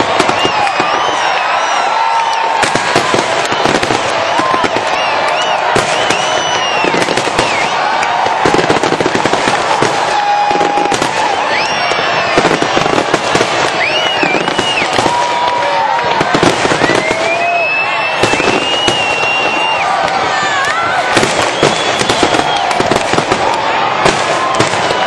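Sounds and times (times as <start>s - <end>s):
fireworks bangs and crackles: 0.0s - 25.0s
spectators shouting and whooping: 0.0s - 25.0s.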